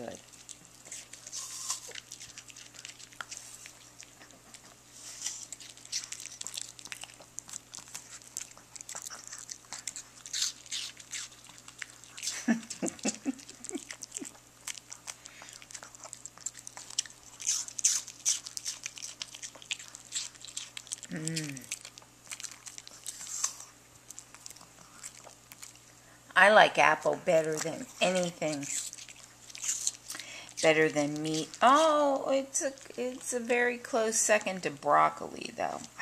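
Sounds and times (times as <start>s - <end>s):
dog crunching apple: 0.0s - 26.2s, 26.8s - 33.5s.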